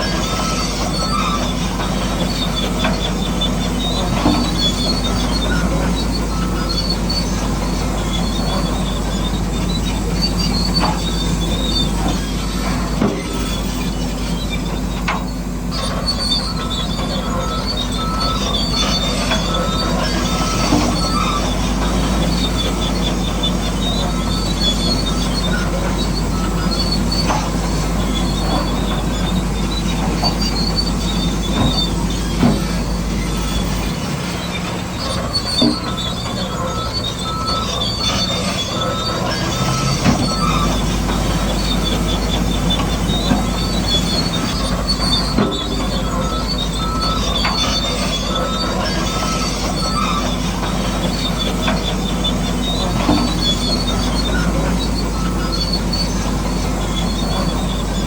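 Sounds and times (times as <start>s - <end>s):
electric motors whining: 0.0s - 58.0s.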